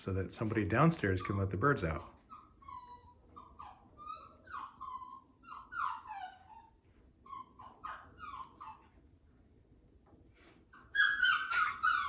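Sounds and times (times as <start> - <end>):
puppy whining: 0.0 - 9.2, 10.5 - 12.0.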